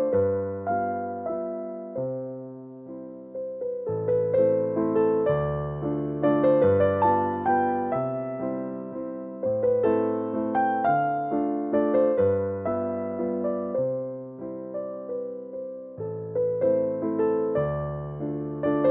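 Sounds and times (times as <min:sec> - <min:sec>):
gentle piano melody: 0:00.0 - 0:18.9.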